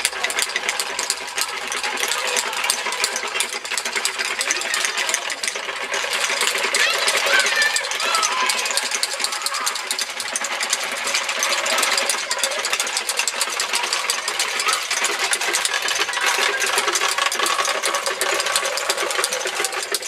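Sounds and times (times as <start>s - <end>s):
wooden rattles clattering: 0.0s - 20.0s.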